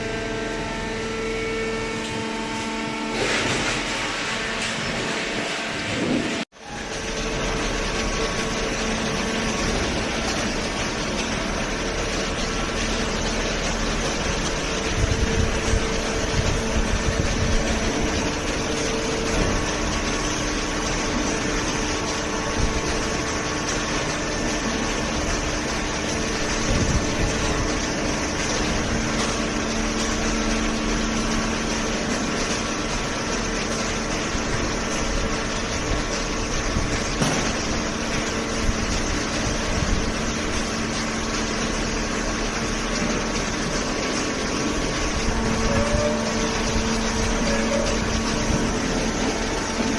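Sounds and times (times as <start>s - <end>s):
hydraulic baler motor humming: 0.0s - 49.9s.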